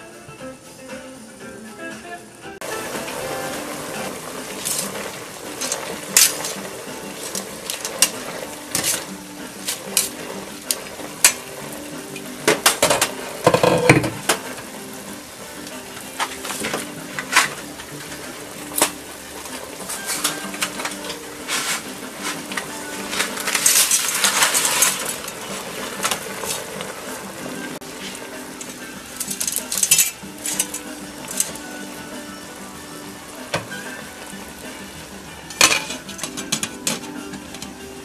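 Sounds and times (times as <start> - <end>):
faint background music: 0.0 - 38.0
dry pasta rattling in metal pot: 2.9 - 32.0, 33.5 - 37.8.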